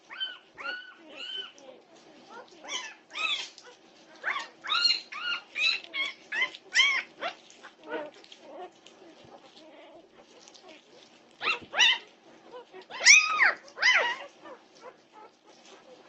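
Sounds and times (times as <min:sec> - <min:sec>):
puppies squealing and whining: 0:00.0 - 0:16.0.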